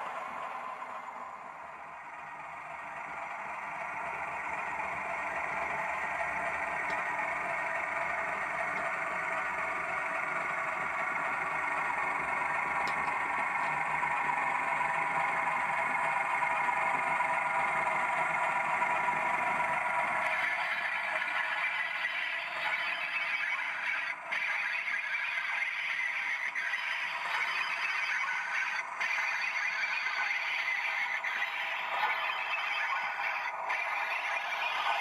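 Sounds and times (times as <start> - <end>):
thin diesel engine drone: 0.0 - 35.0.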